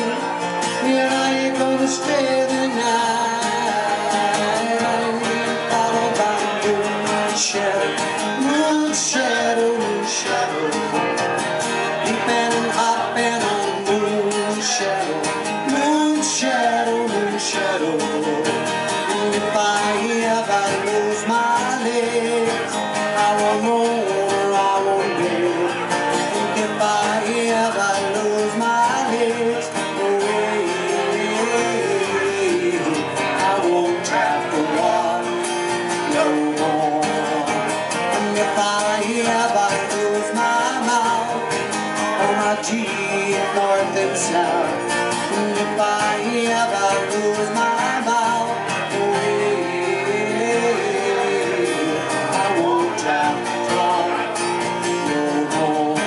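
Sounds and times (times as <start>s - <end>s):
acoustic guitars playing country tune: 0.0s - 56.0s.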